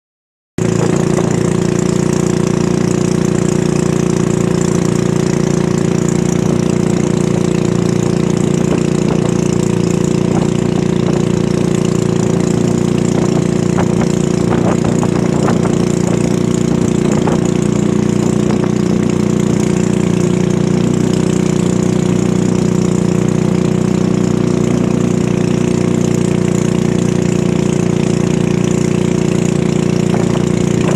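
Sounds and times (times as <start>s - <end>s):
boat engine running: 0.6s - 30.9s
water rushing along hull: 0.6s - 30.9s.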